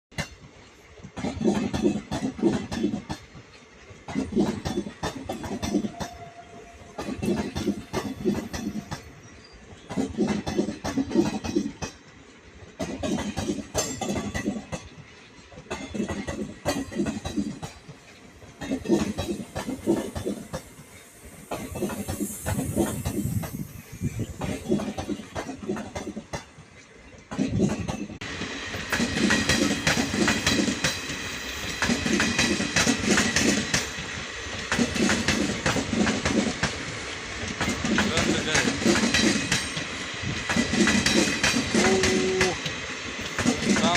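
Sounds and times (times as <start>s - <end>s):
train wheels clickety-clack: 0.1s - 43.9s
rattling hiss: 0.4s - 43.9s.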